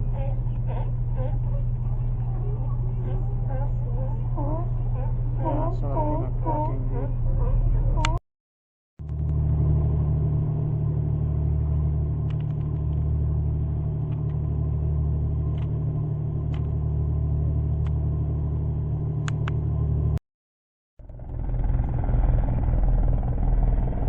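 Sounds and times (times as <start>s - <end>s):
boat engine droning: 0.0s - 8.2s, 9.0s - 20.2s, 21.0s - 24.0s.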